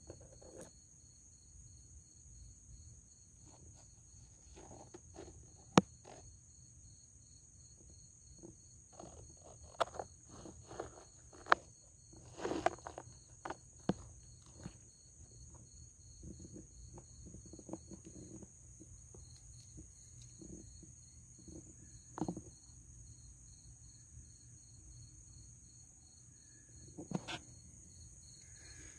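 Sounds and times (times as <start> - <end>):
cricket chirping: 0.0 - 28.9
night insects trilling: 0.0 - 28.9.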